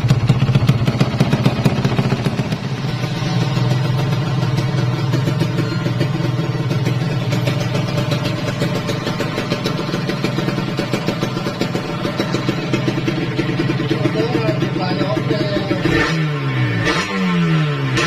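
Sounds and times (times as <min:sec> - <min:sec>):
two-stroke engine idling: 0:00.0 - 0:18.0.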